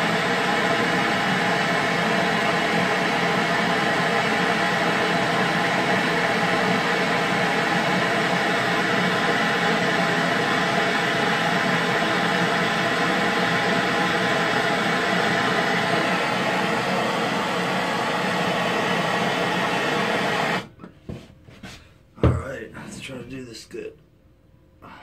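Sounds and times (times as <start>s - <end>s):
propane torch flame hissing: 0.0s - 20.8s.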